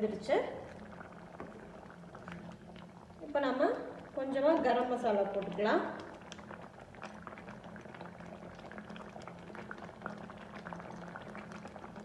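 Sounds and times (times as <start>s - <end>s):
low steady hum: 0.0s - 12.0s
thick gravy bubbling: 0.0s - 12.0s.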